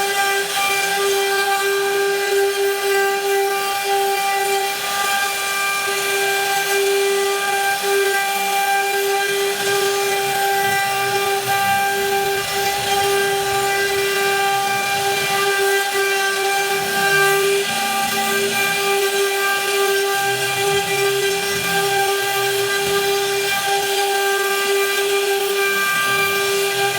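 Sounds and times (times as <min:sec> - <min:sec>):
cnc router cutting wood: 0:00.0 - 0:26.9.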